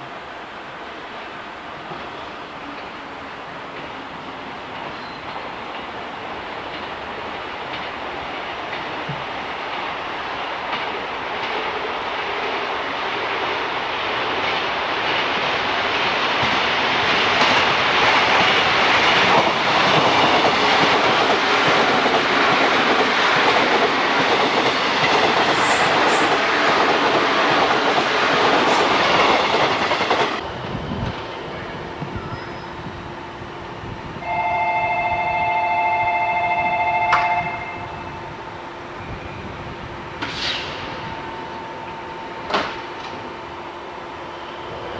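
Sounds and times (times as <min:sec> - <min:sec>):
train wheels on rails: 0:00.0 - 0:44.9.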